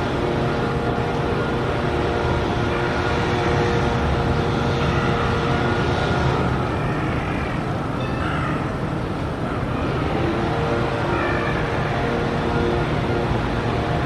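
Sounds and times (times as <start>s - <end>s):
urban traffic rumble: 0.0s - 14.0s.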